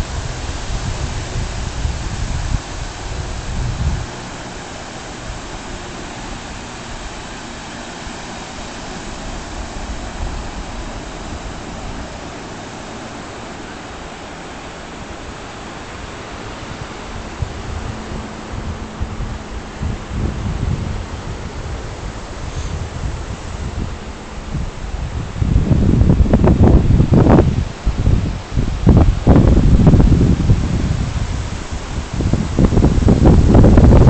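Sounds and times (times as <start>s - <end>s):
waves breaking on beach: 0.0s - 34.0s
wind buffeting microphone: 0.0s - 34.0s.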